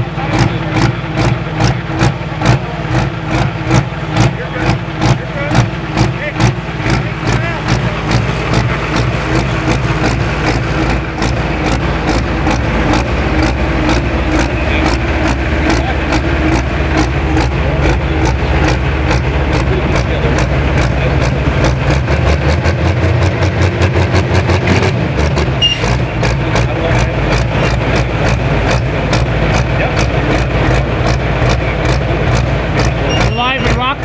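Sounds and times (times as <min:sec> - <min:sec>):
heavy diesel engine running: 0:00.0 - 0:34.0
low pulsing: 0:00.6 - 0:33.8.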